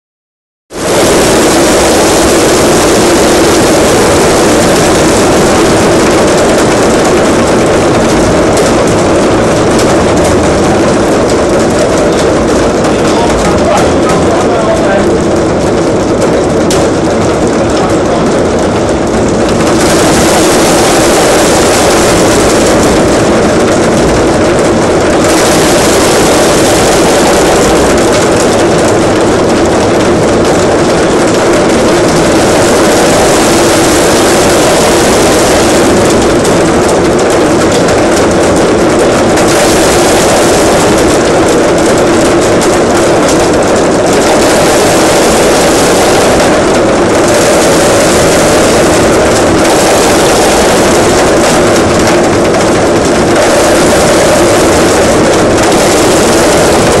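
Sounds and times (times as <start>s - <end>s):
group drumming on plastic barrels: 4.9s - 57.0s.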